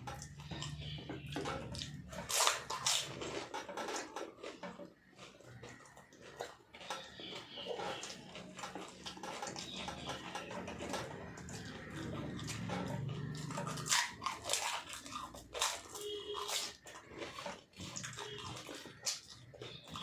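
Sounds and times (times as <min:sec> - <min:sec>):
people chewing and biting food: 0:00.0 - 0:20.0.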